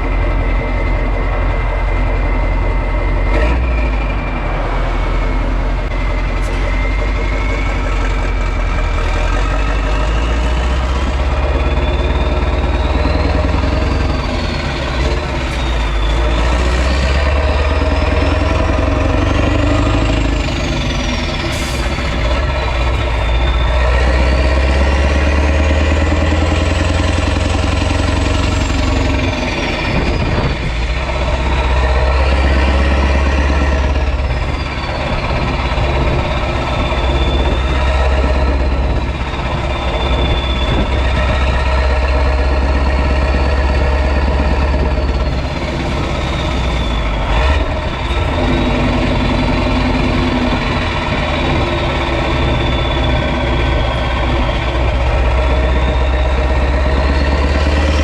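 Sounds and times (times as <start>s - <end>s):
diesel engine running loud: 0.0s - 58.0s
turbo whistle: 0.4s - 58.0s.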